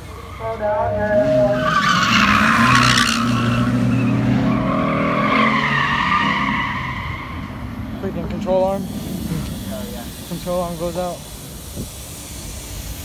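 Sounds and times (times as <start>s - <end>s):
tyres squealing in a skid: 0.0s - 11.3s
car engine revving hard: 0.0s - 11.7s.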